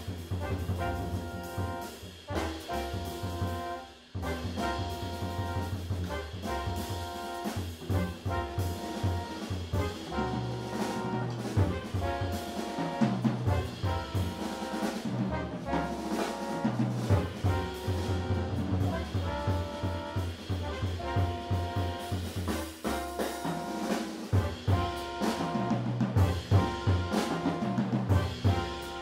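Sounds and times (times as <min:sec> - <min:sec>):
bass: 0:00.0 - 0:29.0
drum kit: 0:00.0 - 0:29.0
horns holding notes: 0:00.0 - 0:29.0.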